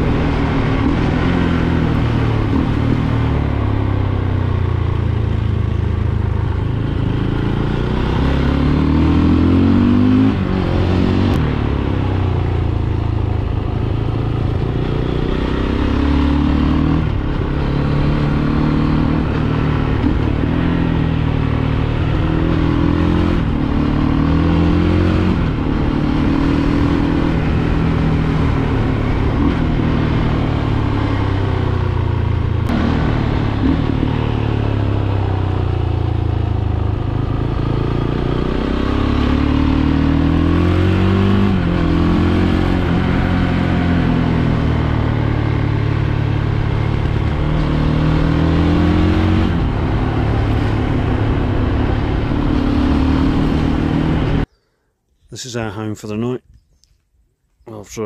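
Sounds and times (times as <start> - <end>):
motorcycle engine revving: 0.0 - 54.5.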